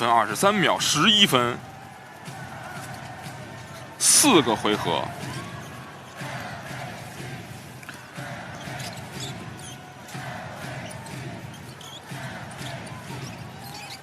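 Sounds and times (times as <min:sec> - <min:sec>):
arena crowd noise: 0:00.0 - 0:14.0.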